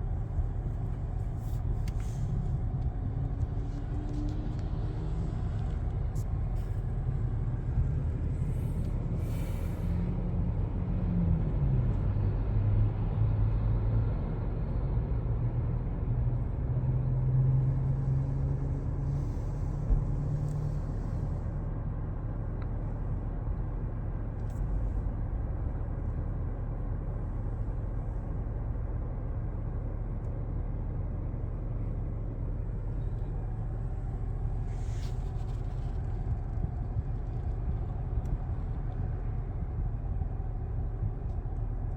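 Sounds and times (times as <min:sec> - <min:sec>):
road noise: 0:00.0 - 0:14.5, 0:15.3 - 0:41.9
vehicle engine rumble: 0:00.0 - 0:41.9.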